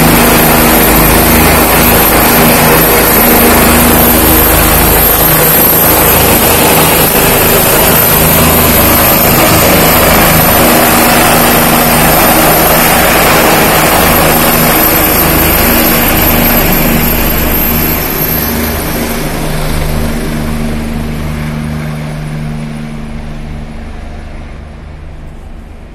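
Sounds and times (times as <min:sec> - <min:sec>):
helicopter rotor and engine: 0:00.0 - 0:25.9.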